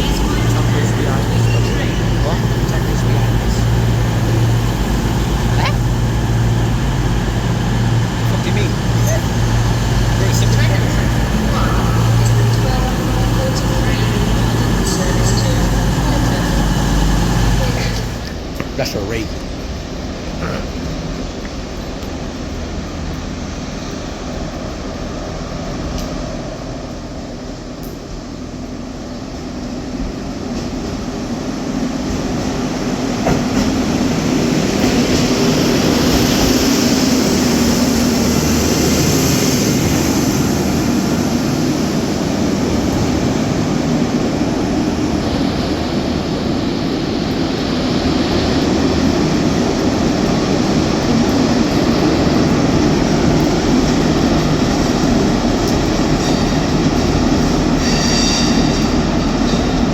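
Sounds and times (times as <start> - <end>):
train running: 0.0 - 59.9.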